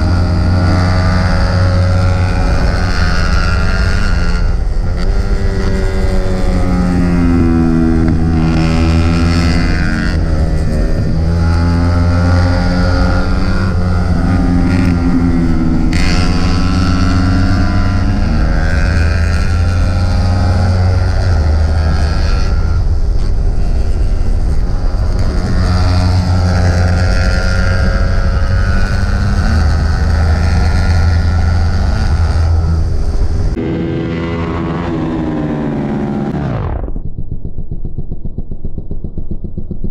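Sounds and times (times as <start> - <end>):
motorbike engine revving: 0.0 - 39.9
wind and road noise: 0.0 - 39.9.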